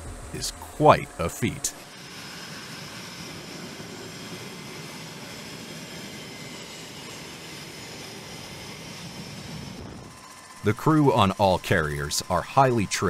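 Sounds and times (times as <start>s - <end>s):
faint high whine: 0.0s - 13.0s
jet engines running: 0.0s - 13.0s.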